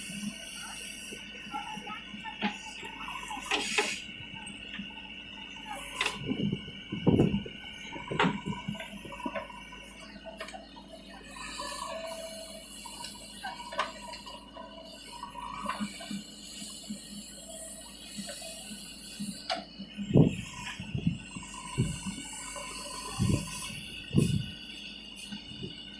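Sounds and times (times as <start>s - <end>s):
backhoe engine and hydraulics: 0.0s - 25.9s.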